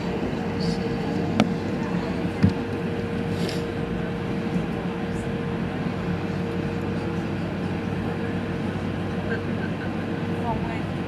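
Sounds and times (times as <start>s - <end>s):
air rush and engine noise: 0.0s - 11.0s
constant low hum: 0.0s - 11.0s.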